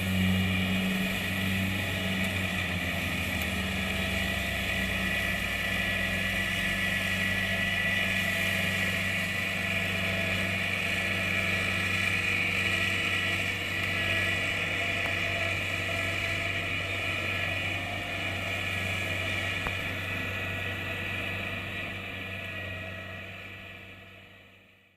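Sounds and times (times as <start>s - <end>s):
diesel engine hum: 0.0s - 24.9s
high machinery whine: 0.0s - 24.9s.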